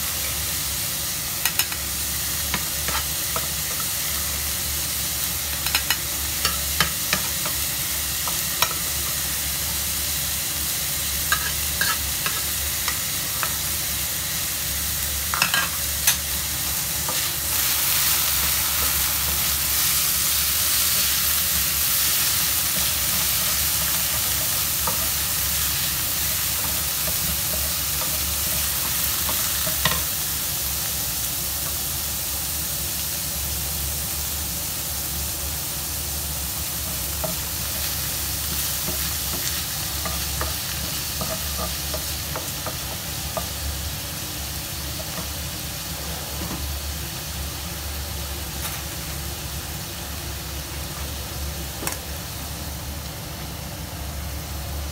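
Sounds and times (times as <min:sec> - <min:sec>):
meat sizzling in a frying pan: 0:00.0 - 0:54.9.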